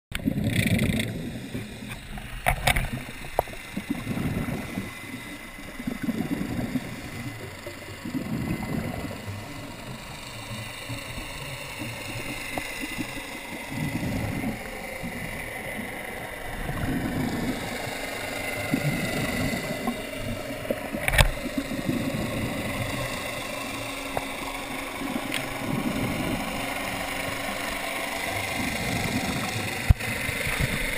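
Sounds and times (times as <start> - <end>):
regulator bubbles rumbling: 0.1 - 30.9
underwater engine whine: 0.1 - 30.9.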